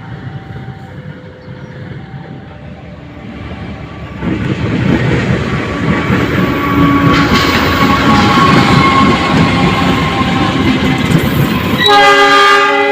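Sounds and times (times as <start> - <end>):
train rumbling on rails: 0.0 - 12.9.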